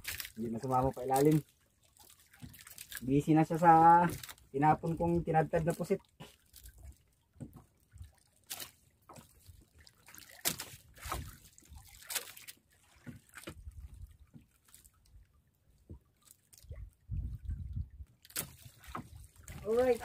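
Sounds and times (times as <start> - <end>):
water splashing and trickling: 0.0 - 20.0.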